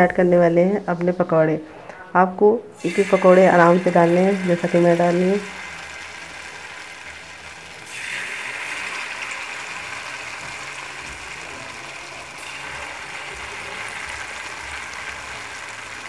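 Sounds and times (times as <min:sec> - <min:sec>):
fritters sizzling in hot oil: 0:02.8 - 0:16.0.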